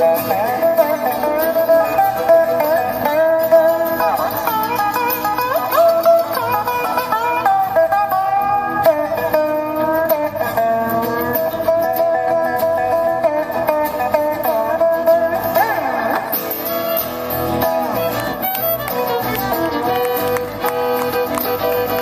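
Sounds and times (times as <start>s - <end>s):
bluegrass band playing: 0.0s - 22.0s.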